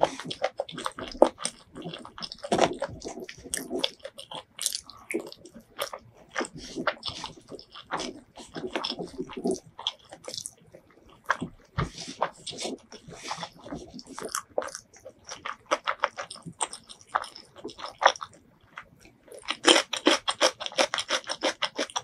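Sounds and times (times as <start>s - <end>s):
chewing and wet mouth sounds: 0.0s - 22.0s.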